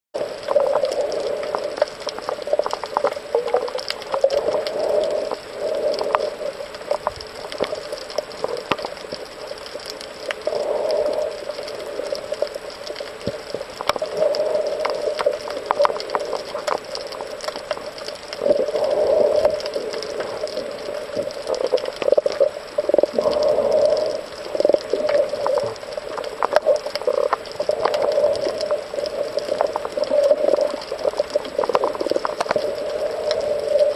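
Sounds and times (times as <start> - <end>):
muffled underwater rush: 0.2 - 33.9
underwater clicks and crackles: 0.2 - 33.9.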